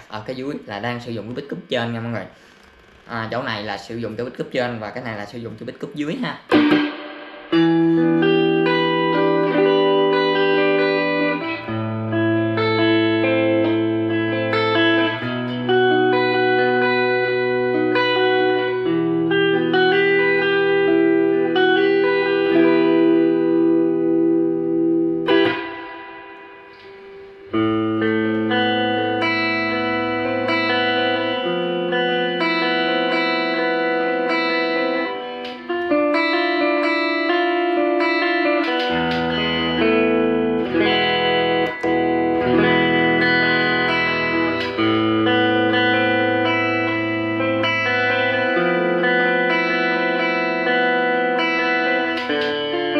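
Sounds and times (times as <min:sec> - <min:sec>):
electric guitar chords: 0:00.0 - 0:52.9.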